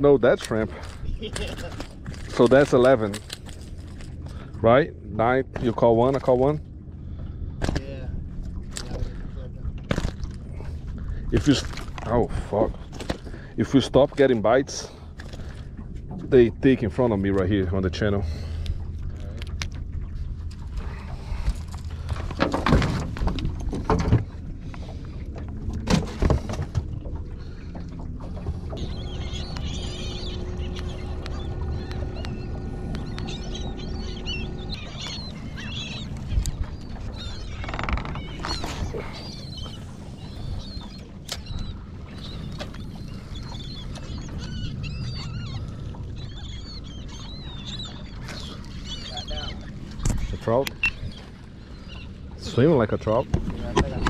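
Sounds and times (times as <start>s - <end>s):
birds calling: 0.0s - 54.0s
boat engine rumble: 0.0s - 54.0s.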